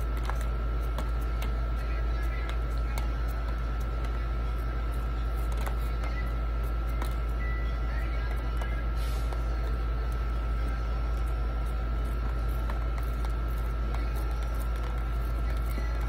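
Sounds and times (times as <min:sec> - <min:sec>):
low hum with high whine: 0:00.0 - 0:16.0.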